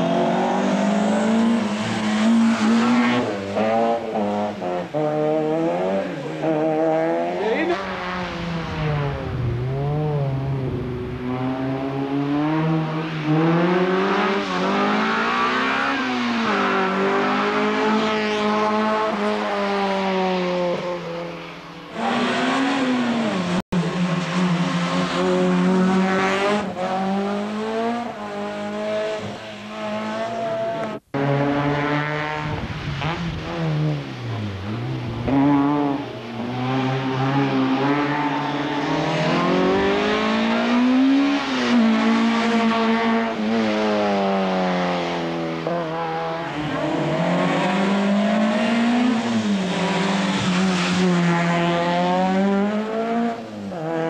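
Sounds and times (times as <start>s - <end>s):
race car engines revving past: 0.0s - 54.0s.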